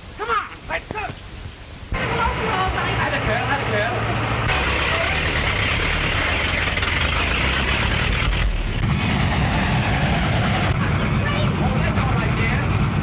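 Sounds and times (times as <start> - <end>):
vehicle engine noise: 1.9 - 13.0.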